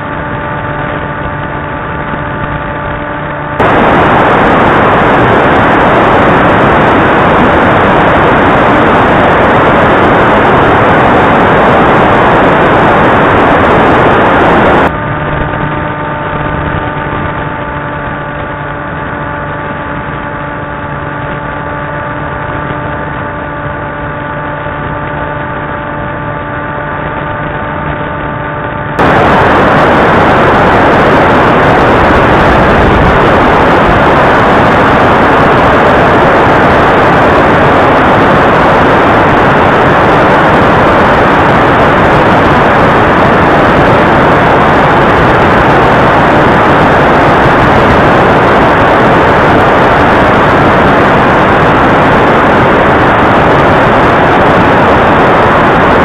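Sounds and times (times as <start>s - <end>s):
air rushing over microphone: 0.0s - 56.0s
drone motors and propellers: 0.0s - 56.0s
multi-toned motor whine: 0.0s - 56.0s.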